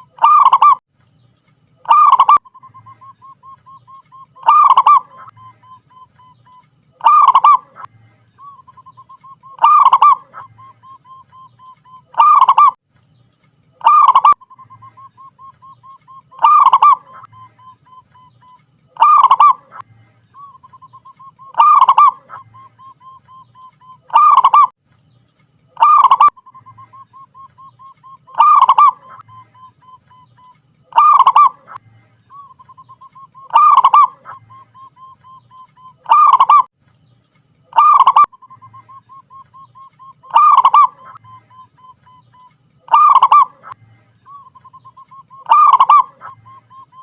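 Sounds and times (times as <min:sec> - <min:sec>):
dove cooing: 0:00.0 - 0:00.8, 0:01.8 - 0:12.8, 0:13.8 - 0:19.8, 0:20.4 - 0:24.7, 0:25.8 - 0:36.7, 0:37.7 - 0:47.0.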